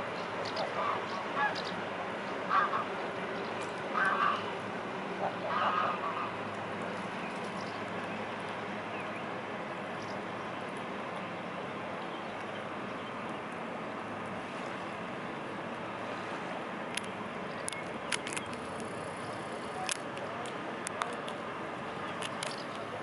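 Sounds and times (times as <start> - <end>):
distant tugboat: 0.0 - 23.0
river rushing: 0.0 - 23.0.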